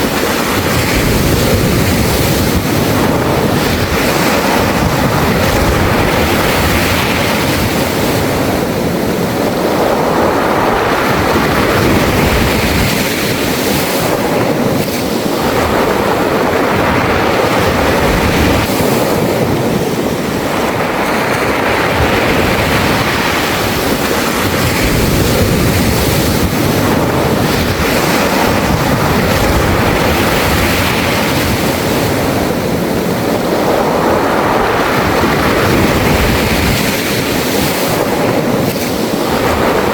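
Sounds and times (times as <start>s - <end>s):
waves on pebble beach: 0.0s - 39.9s.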